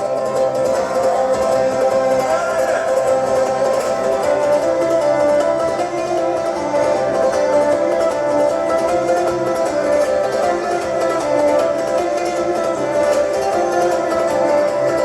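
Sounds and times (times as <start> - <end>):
plucked string instruments: 0.0 - 15.0.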